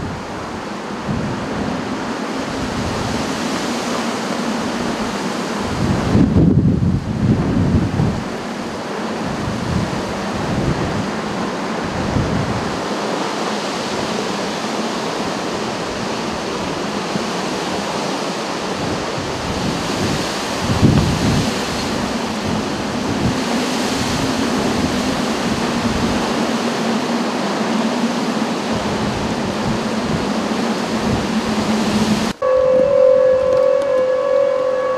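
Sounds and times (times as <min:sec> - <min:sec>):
wind blowing across microphone: 0:00.0 - 0:34.9.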